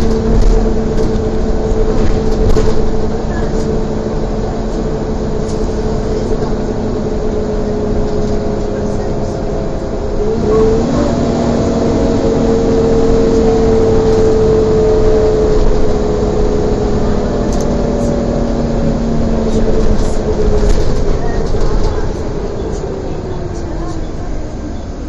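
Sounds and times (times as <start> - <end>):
bus whine: 0.0 - 25.0
engine and road rumble: 0.0 - 25.0.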